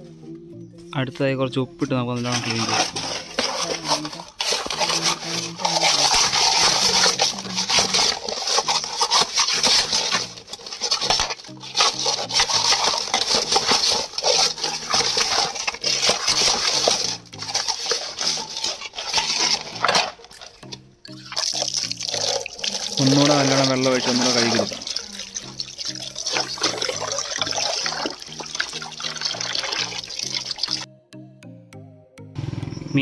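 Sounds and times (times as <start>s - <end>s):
hands scrubbing fish with salt: 2.2s - 30.9s.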